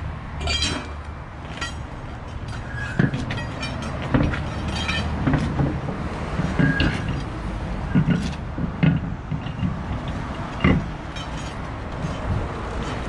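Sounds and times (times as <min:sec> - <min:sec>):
metal clanks and knocks: 0:00.4 - 0:13.0.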